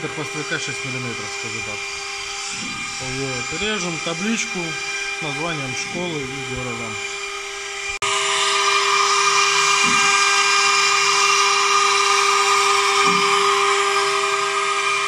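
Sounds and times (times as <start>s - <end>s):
router bit engraving wood: 0.0s - 15.0s
router spindle whining: 0.0s - 15.0s.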